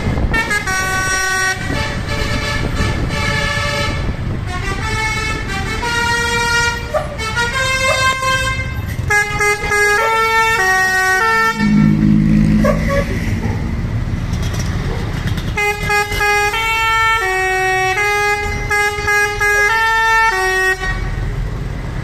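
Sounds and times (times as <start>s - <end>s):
bus horn playing tune: 0.0s - 13.2s, 15.5s - 21.4s.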